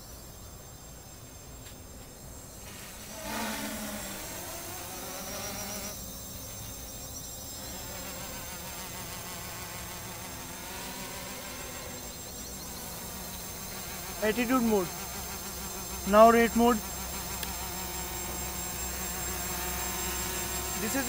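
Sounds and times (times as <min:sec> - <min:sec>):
drone propellers buzzing: 0:02.3 - 0:21.0.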